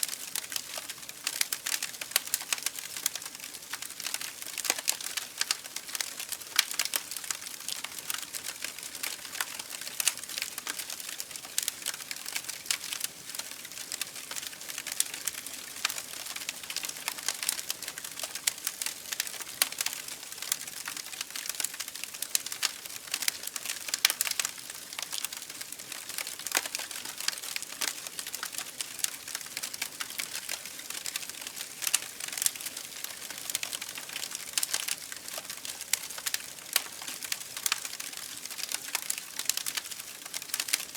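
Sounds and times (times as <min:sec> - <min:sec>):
campfire crackling and popping: 0:00.1 - 0:40.9.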